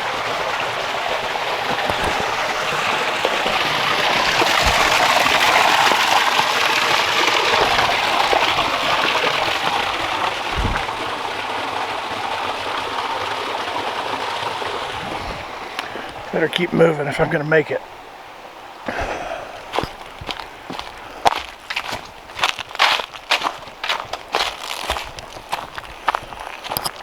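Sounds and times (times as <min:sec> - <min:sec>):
rushing stream water: 0:00.0 - 0:27.0.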